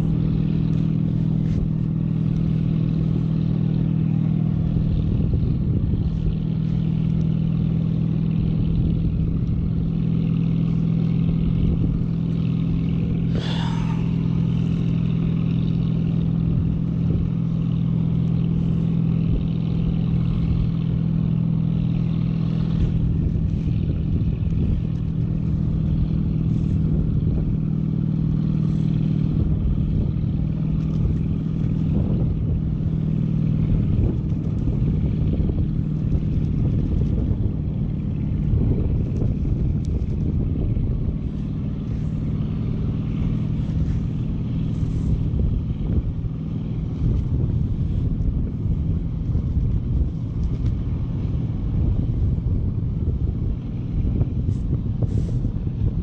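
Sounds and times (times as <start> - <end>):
constant low drone: 0.0 - 56.0
wind buffeting microphone: 0.0 - 56.0.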